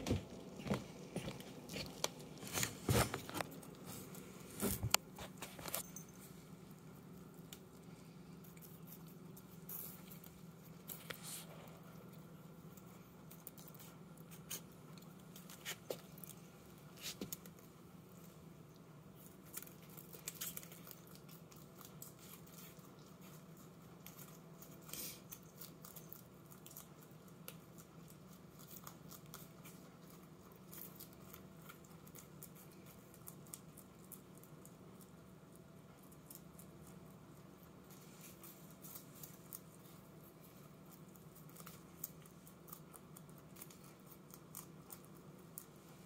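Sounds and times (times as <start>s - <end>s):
rabbit chewing leaves: 0.0s - 46.0s
steady low hum: 0.0s - 46.0s.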